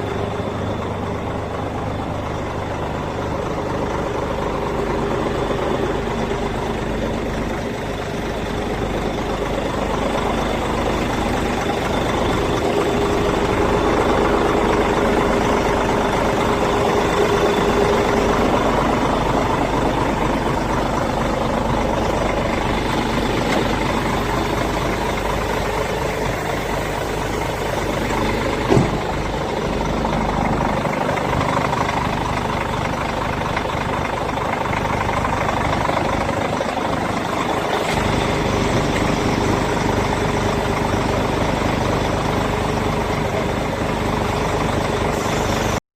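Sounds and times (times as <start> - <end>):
truck engine idling: 0.0 - 45.8.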